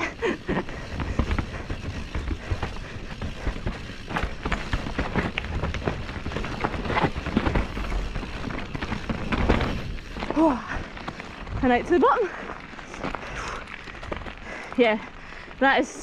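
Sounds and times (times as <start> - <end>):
bike knocking and rattling: 0.0 - 16.0
tyres rolling over roots and stones: 0.0 - 16.0.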